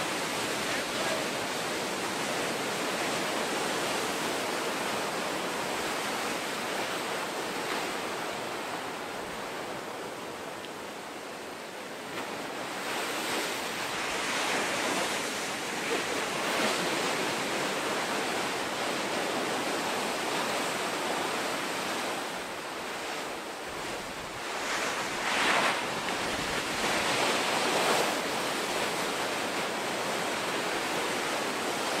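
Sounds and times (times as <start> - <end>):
waves crashing: 0.0 - 32.0
whitewater rushing up beach: 0.0 - 32.0.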